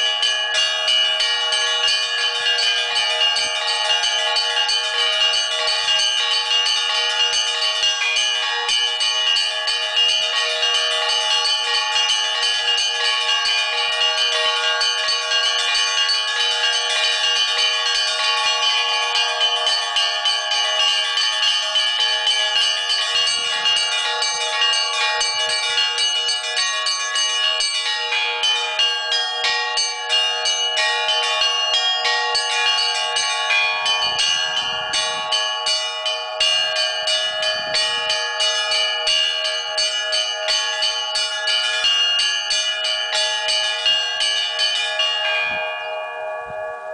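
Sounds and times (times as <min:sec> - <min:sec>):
church bells ringing: 0:00.0 - 0:46.9
lower bell ringing: 0:00.0 - 0:46.9.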